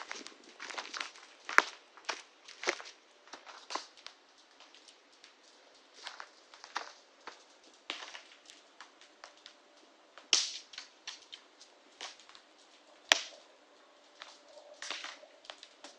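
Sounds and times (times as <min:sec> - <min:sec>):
fire popping loudly: 0:00.0 - 0:15.9
wood fire crackling: 0:00.0 - 0:15.9.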